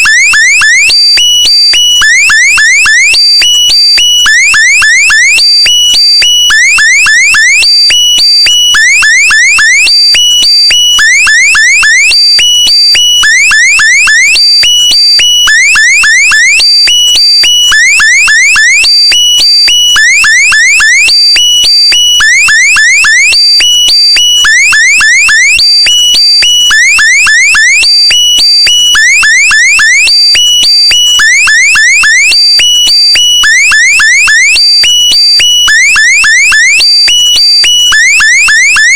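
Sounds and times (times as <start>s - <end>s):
electronic alarm chirps: 0.0s - 38.9s.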